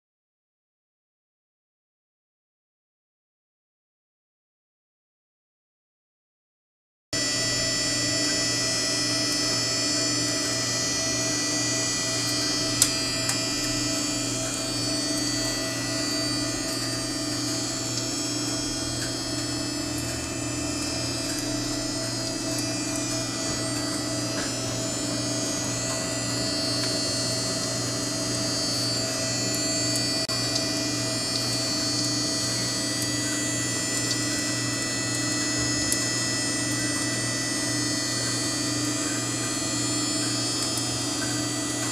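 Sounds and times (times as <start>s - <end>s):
electric motor hum: 7.2s - 41.9s.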